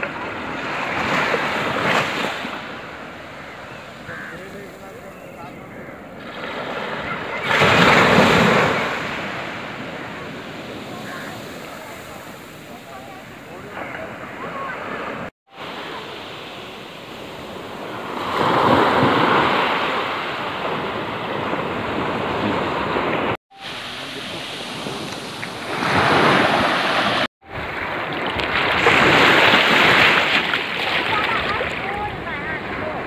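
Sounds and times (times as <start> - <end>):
sea waves washing over sand: 6.2 - 33.0.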